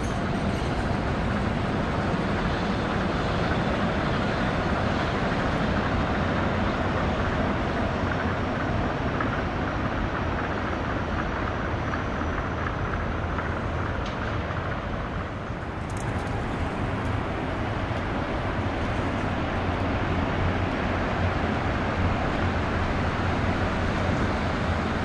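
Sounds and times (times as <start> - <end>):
city traffic noise: 0.0 - 25.0
monorail train rumbling past: 0.0 - 25.0.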